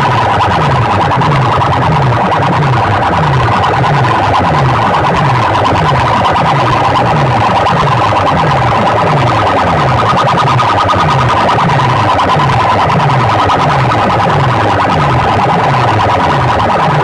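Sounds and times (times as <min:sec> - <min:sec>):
distorted electronic music: 0:00.0 - 0:17.0
falling bass sweep: 0:00.0 - 0:17.0
siren-like tone: 0:00.0 - 0:17.0.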